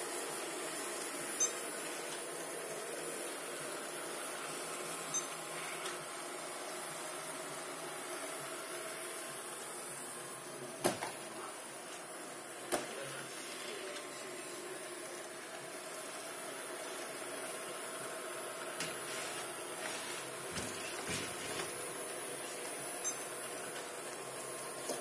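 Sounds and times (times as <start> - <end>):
robot vacuum cleaner running: 0.0 - 25.0.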